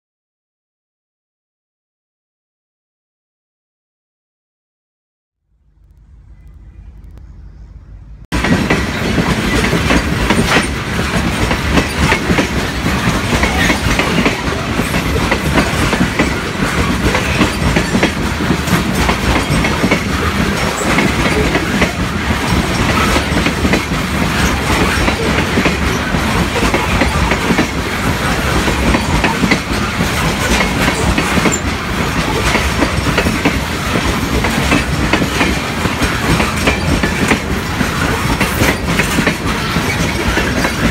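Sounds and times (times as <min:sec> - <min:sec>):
freight train wheels clicking: 0:08.0 - 0:40.9.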